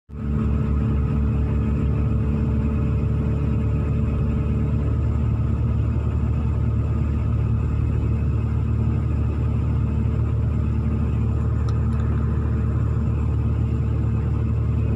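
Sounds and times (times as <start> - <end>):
diesel truck engine running: 0.1 - 14.9.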